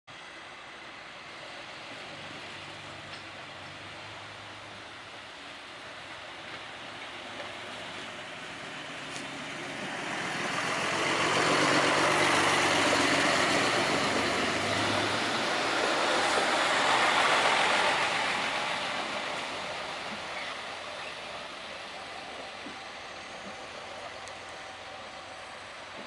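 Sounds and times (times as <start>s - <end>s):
diesel railcar passing: 0.1s - 26.0s.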